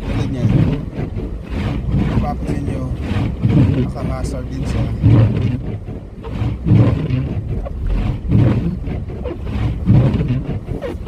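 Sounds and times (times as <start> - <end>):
wind and road noise rumble: 0.0 - 11.0.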